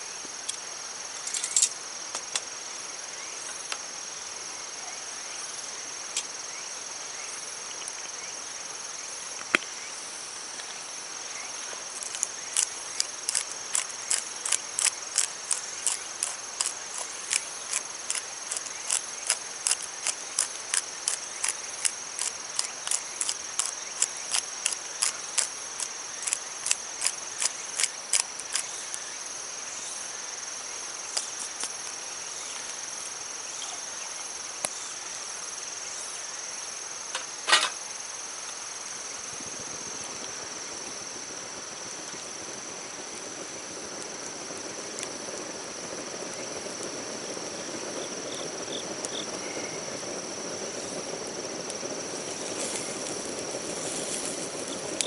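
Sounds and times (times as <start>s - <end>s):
insect sharp ticks: 0.2s - 55.0s
insect high-pitched trill: 2.6s - 45.0s, 52.0s - 55.0s.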